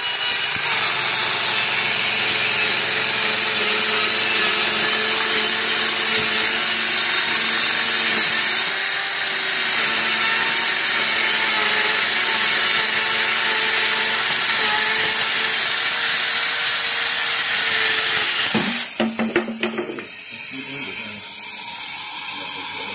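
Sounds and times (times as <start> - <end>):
circular saw cutting board: 0.0 - 22.9.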